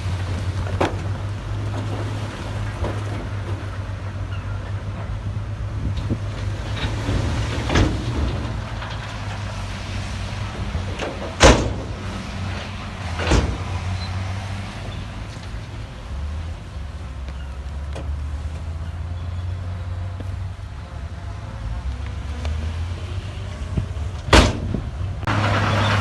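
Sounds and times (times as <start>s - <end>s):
diesel machine running: 0.0s - 26.0s.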